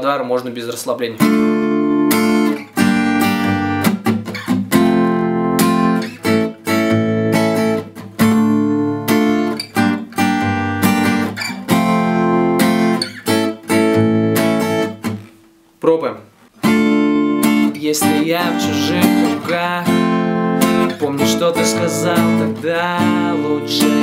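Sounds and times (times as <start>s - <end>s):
acoustic guitar strumming: 1.1s - 15.6s, 16.4s - 24.0s.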